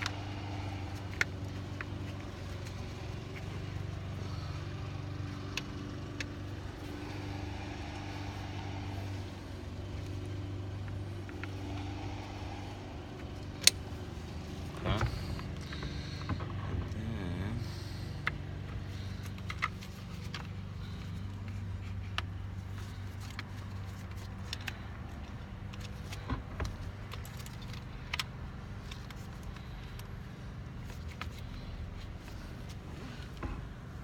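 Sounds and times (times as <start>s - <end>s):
clicks and rattles of plastic parts: 0.0s - 34.0s
steady low hum: 0.0s - 34.0s.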